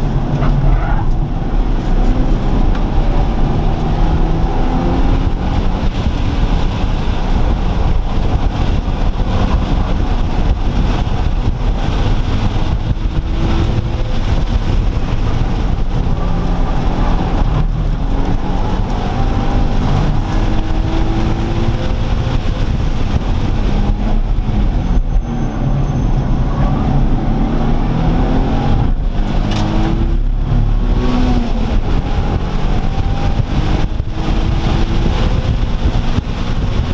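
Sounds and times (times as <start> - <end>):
car engines revving: 0.0 - 36.9
low engine rumble: 0.0 - 36.9.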